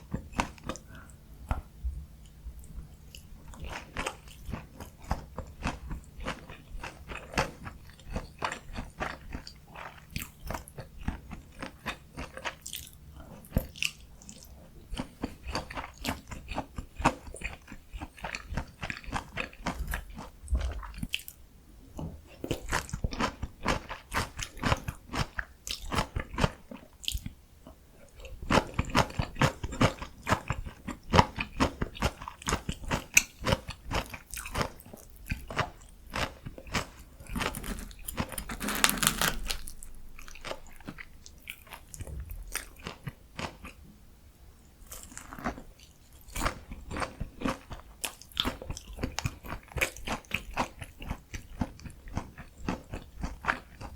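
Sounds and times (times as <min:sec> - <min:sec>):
crunching and chewing food: 0:00.0 - 0:44.0, 0:44.8 - 0:53.9.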